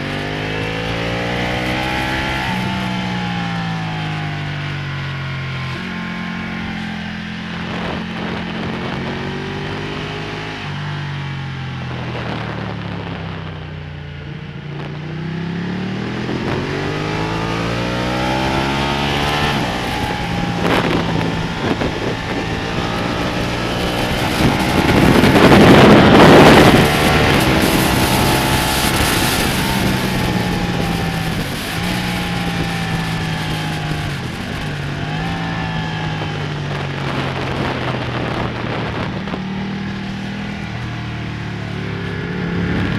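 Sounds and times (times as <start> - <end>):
motorcycle engine revving: 0.0 - 42.9
wind rush on microphone: 0.0 - 42.9.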